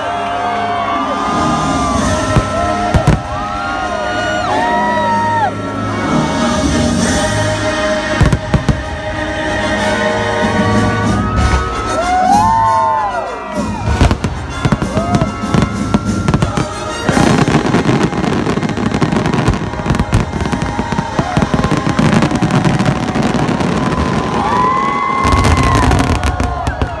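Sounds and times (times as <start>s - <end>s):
music: 0.0s - 27.0s
fireworks bangs and crackling: 1.2s - 4.2s, 6.5s - 27.0s.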